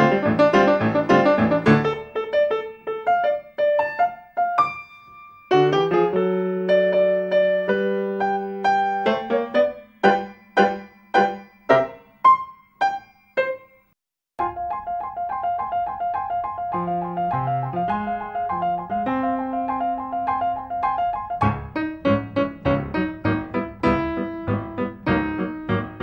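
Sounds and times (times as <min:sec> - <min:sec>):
solo piano: 0:00.0 - 0:26.0.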